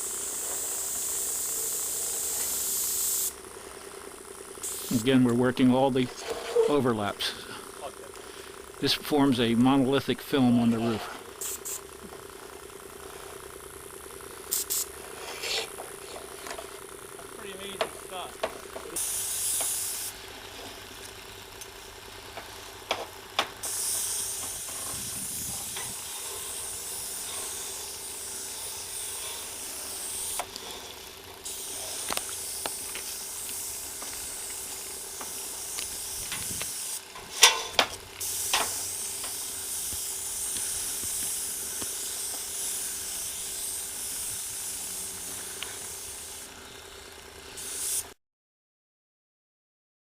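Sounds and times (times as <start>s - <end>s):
paint sprayer hissing: 0.0s - 5.2s, 10.3s - 48.2s.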